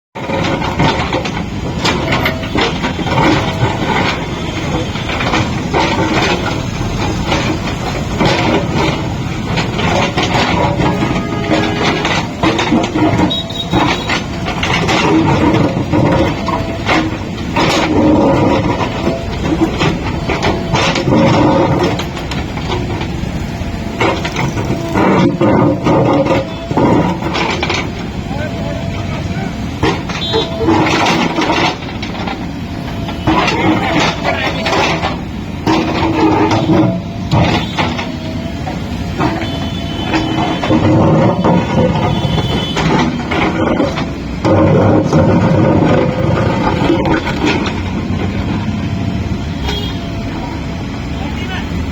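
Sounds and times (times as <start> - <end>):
diesel engine working under load: 0.1 - 51.9
sharp metallic clanks: 0.2 - 50.7.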